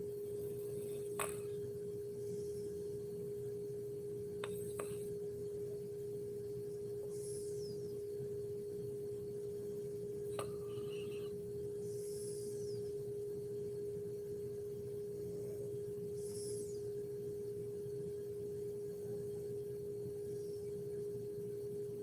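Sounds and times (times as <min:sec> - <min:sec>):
faint high whistling: 0:00.0 - 0:22.0
steady hum: 0:00.0 - 0:22.0.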